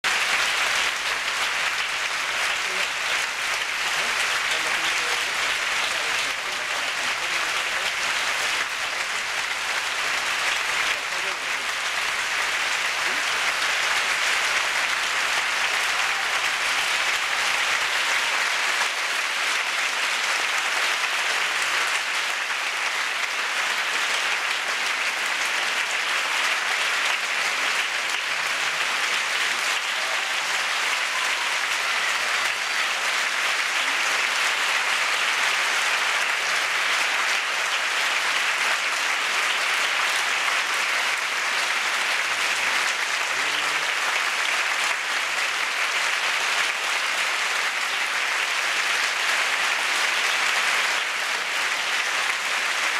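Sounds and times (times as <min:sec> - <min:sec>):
audience applauding: 0:00.0 - 0:52.9.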